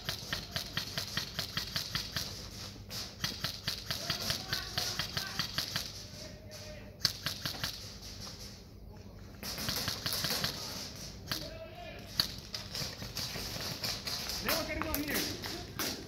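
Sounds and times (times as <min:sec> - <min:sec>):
airsoft rifles firing: 0:00.0 - 0:08.2, 0:09.4 - 0:16.0.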